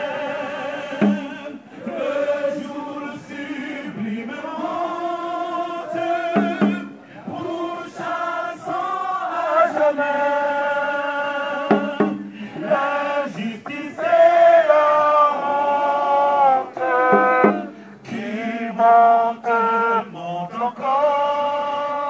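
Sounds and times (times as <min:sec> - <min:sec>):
crowd singing together: 0:00.0 - 0:22.0.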